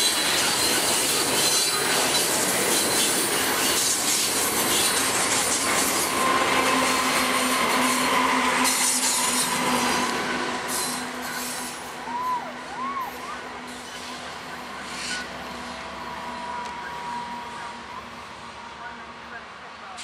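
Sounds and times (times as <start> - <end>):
wheels squealing: 0.0 - 18.2
freight cars rolling on track: 0.0 - 20.0
locomotive engine hum: 0.0 - 20.0.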